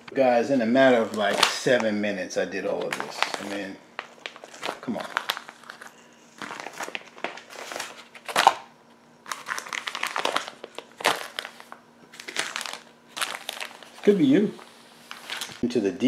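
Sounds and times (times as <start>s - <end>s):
plastic bags crinkling: 0.8s - 15.6s.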